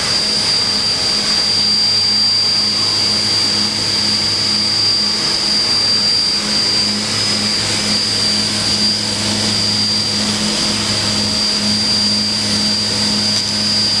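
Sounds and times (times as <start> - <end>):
machining center humming and whining: 0.0 - 14.0.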